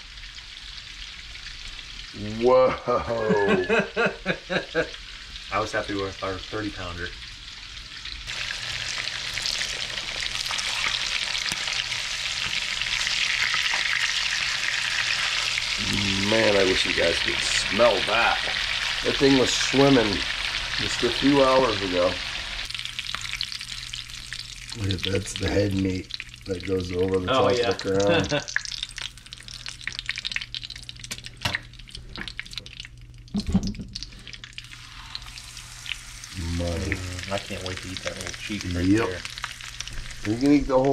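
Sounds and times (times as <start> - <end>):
fish sizzling in a skillet: 0.0 - 2.2, 4.2 - 27.2, 28.4 - 33.0, 33.9 - 40.9
oil crackling in a frying pan: 0.0 - 2.4, 4.5 - 27.3, 28.4 - 40.9.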